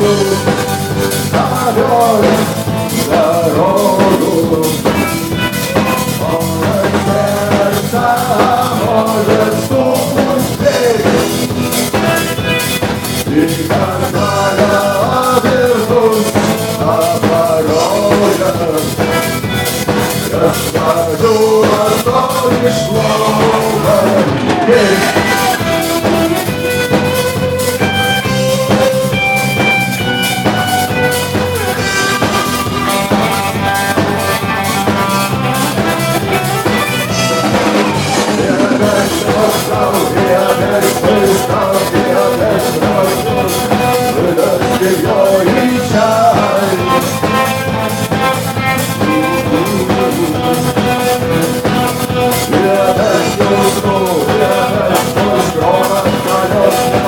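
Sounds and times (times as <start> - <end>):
band playing with drum beat: 0.0 - 57.0
person singing: 0.0 - 57.0.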